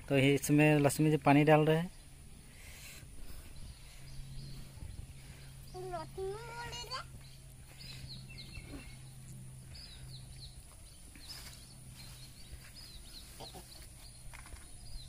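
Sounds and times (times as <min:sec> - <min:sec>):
low steady hum: 0:00.0 - 0:15.0
faint bird chirps: 0:01.9 - 0:15.0.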